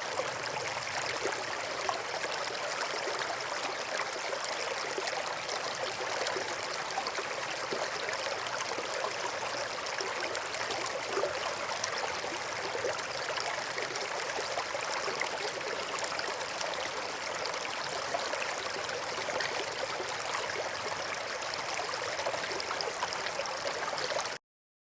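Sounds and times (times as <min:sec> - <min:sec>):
brook flowing: 0:00.0 - 0:24.4.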